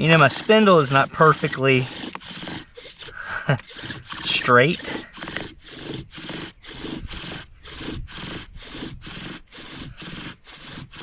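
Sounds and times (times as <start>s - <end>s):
bow drill spindle rasping squeal: 0.0s - 11.0s.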